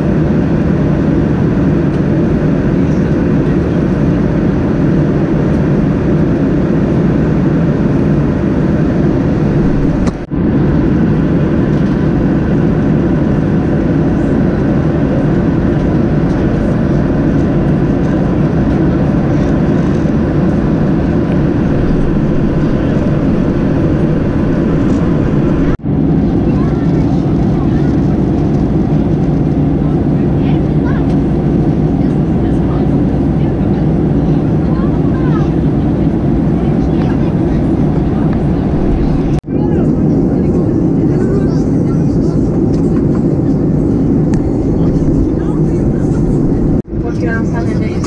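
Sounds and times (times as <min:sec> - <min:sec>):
airliner cabin engine rumble: 0:00.0 - 0:48.0.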